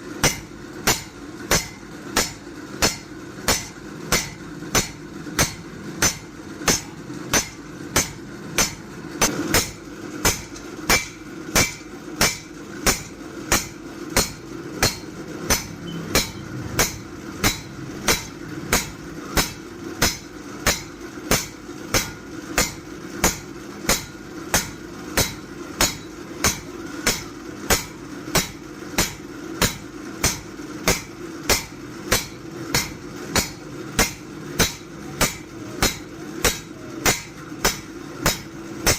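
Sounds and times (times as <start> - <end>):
hammer striking blade on anvil: 0.2 - 38.9.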